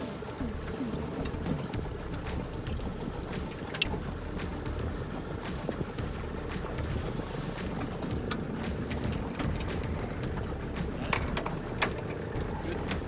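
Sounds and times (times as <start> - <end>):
low rumble of wind and water: 0.0 - 13.0
gear clicking and knocking: 1.2 - 6.8, 7.6 - 13.0.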